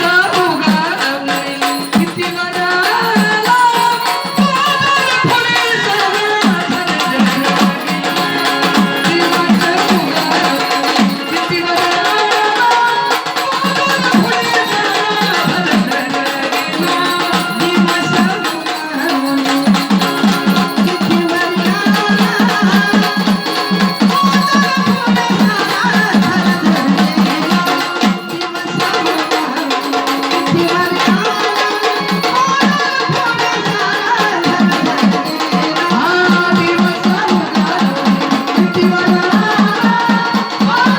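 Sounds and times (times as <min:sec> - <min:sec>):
drums beaten in fast rhythm: 0:00.0 - 0:40.9.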